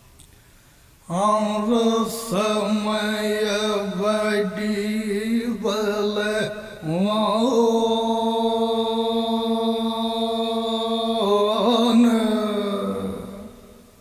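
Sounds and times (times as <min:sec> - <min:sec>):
man singing: 0:01.1 - 0:10.1, 0:11.2 - 0:13.8.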